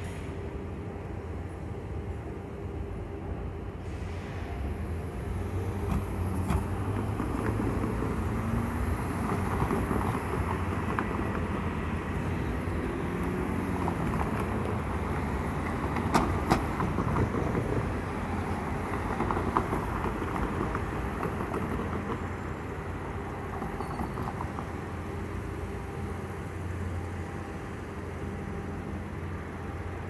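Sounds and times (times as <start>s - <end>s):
low rumble of vehicles: 0.0s - 30.0s.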